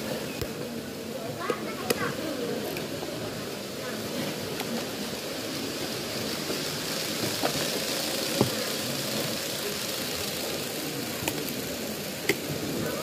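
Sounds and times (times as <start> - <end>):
model trains whirring hum: 0.0 - 13.0.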